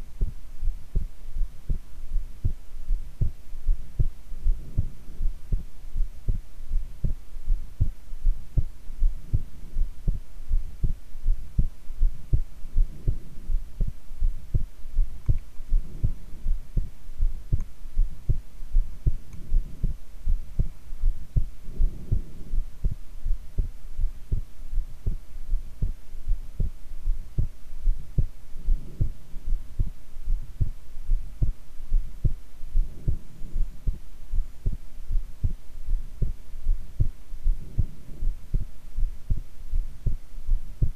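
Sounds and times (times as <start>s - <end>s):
faint steady hum: 0.0s - 40.9s
heartbeat thuds: 0.0s - 40.9s.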